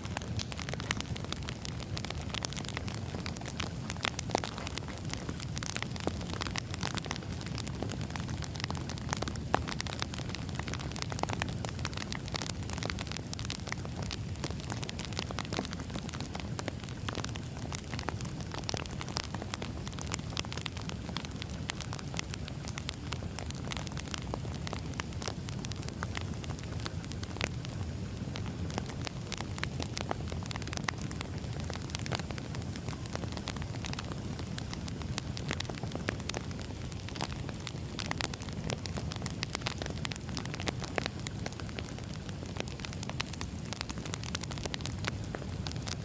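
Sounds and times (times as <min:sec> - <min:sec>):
fire low rumble: 0:00.0 - 0:46.0
wood fire crackling and popping: 0:00.0 - 0:46.0.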